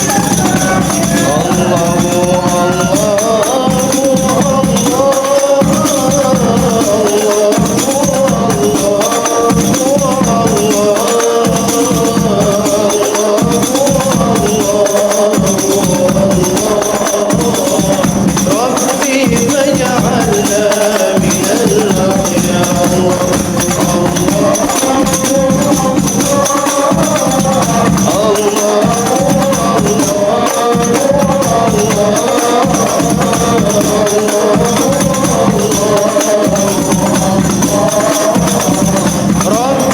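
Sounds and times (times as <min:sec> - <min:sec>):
frame drums and jingles: 0:00.0 - 0:39.9
voices singing a melody: 0:00.0 - 0:39.9.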